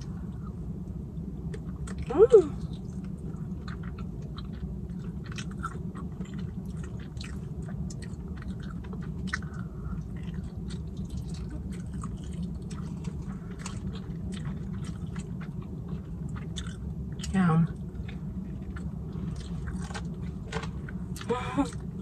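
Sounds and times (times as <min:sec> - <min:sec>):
low background hum: 0:00.0 - 0:22.0
close chewing: 0:01.4 - 0:22.0.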